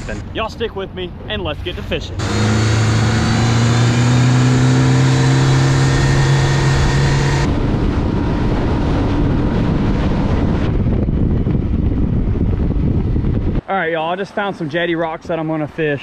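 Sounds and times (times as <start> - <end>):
wind rumbling: 0.0 - 16.0.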